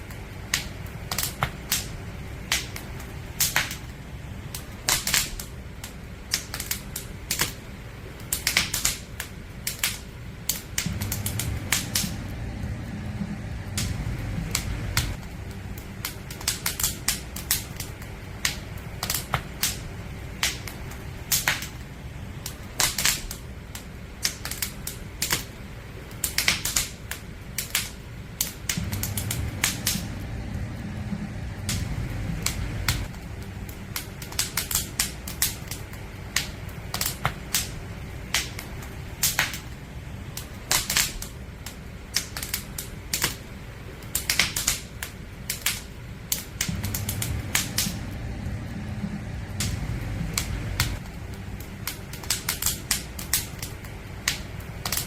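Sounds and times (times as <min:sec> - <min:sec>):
low rumble of fire: 0:00.0 - 0:55.0
wood fire crackling and popping: 0:00.0 - 0:55.0.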